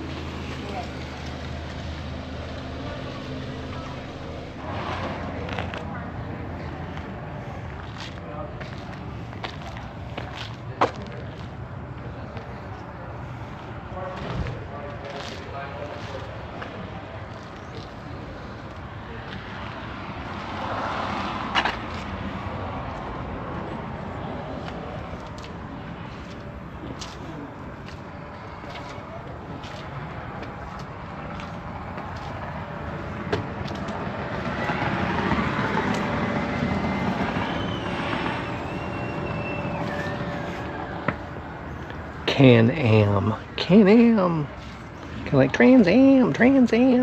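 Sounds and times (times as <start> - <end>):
vehicle passing: 0.0 - 47.0.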